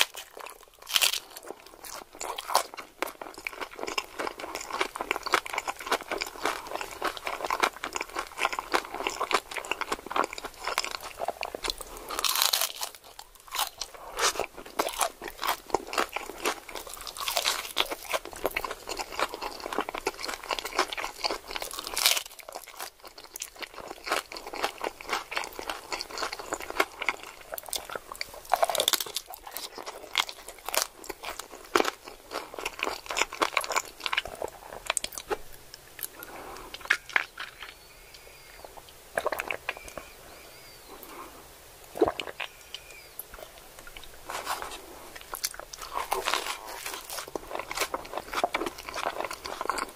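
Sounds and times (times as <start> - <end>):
crunching and chewing taco: 0.0 - 40.2, 41.9 - 49.9.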